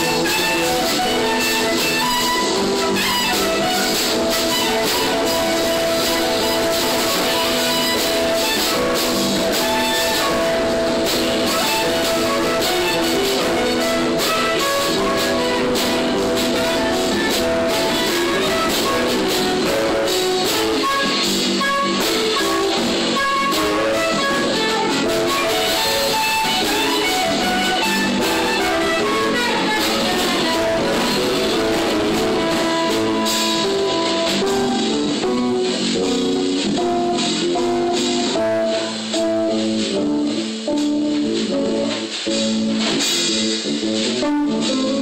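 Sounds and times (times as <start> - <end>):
dense instrumental music: 0.0 - 45.0.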